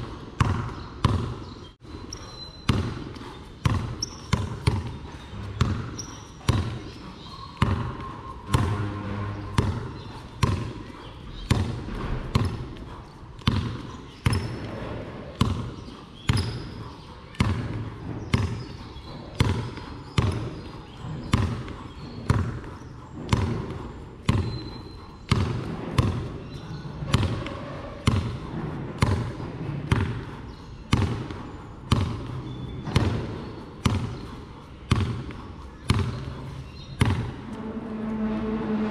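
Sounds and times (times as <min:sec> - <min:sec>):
basketball bouncing on concrete: 0:00.0 - 0:08.8, 0:09.5 - 0:26.4, 0:27.1 - 0:37.5.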